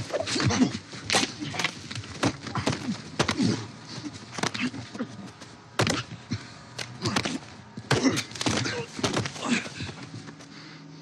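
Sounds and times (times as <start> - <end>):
fight hits and scuffles: 0.0 - 10.4
men grunting: 0.2 - 10.1.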